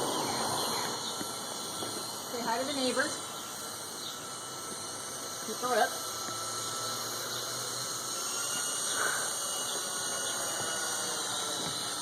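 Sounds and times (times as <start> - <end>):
rc helicopter motor and rotor: 0.0 - 12.0.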